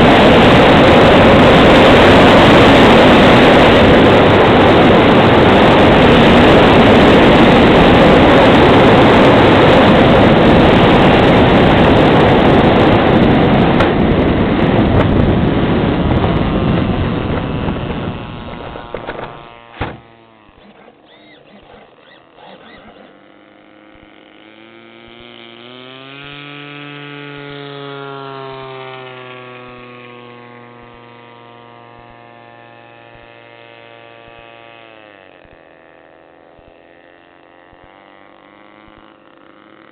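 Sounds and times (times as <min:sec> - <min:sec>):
quiet motor drone: 0:00.0 - 0:39.9.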